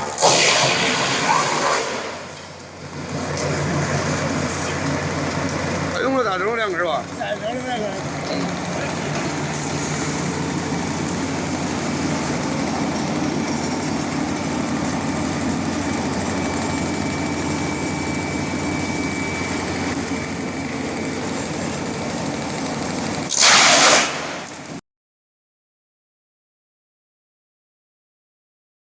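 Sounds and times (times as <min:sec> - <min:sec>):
loud burst of noise: 0:00.0 - 0:07.2, 0:08.0 - 0:24.8
wood chipper running: 0:00.0 - 0:24.8.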